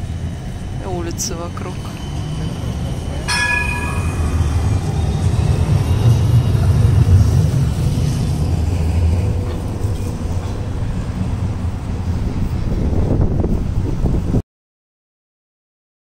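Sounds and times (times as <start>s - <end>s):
city traffic rumble: 0.0s - 14.4s.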